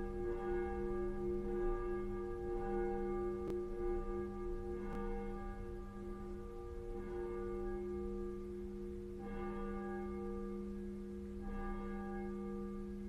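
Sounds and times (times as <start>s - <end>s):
church bell tolling: 0.0s - 13.0s.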